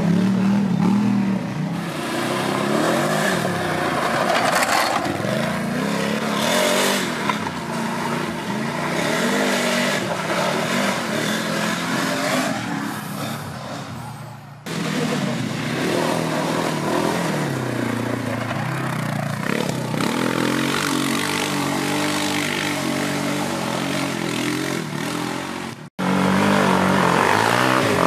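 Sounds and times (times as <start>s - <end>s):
quad engine revving: 0.0s - 28.0s.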